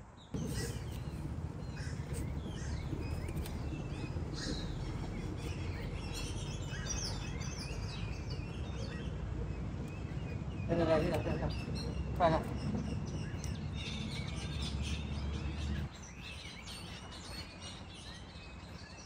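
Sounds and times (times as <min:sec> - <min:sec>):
small birds chirping: 0:00.2 - 0:19.0
low outdoor rumble: 0:00.3 - 0:16.0.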